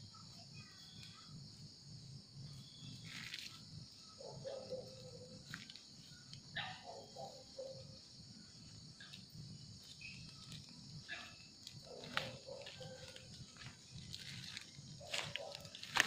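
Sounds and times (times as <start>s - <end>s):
crickets chirping: 0.0s - 16.0s
short lower insect calls: 0.0s - 16.0s.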